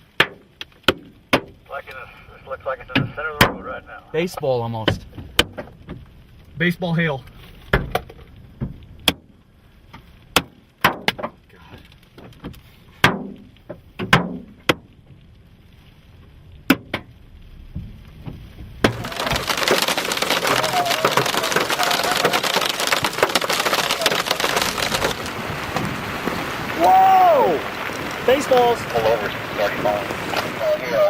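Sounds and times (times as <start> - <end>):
hailstones pounding a vehicle: 0.0 - 31.0.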